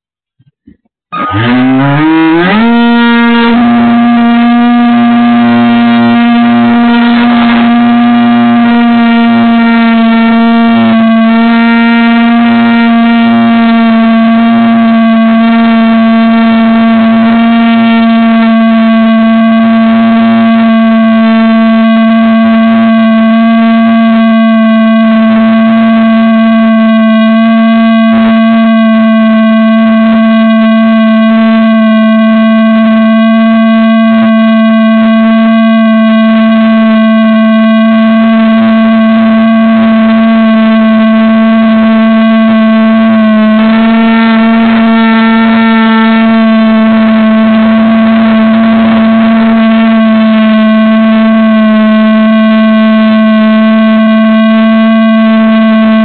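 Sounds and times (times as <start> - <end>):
model plane motor buzzing: 1.2 - 56.0.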